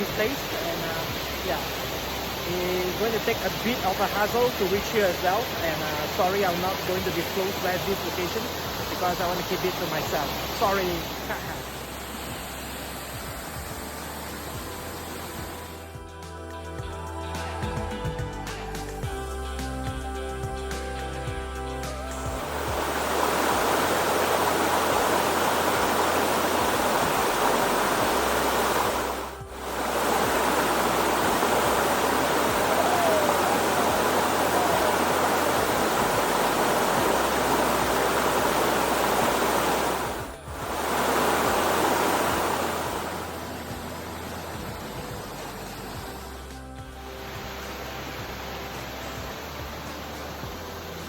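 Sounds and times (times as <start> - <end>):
soft background music with bass: 0.0 - 51.0
waterfall rushing: 0.0 - 51.0.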